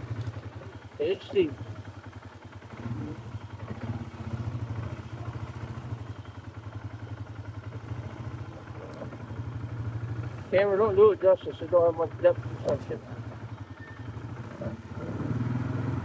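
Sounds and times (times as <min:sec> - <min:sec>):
atv engine low throb: 0:00.0 - 0:16.0.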